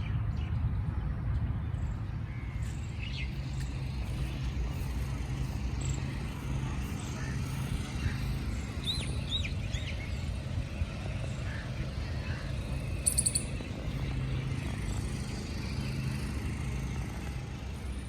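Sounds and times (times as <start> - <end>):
birds chirping: 0.0 - 17.9
steady low rumble: 0.0 - 18.0.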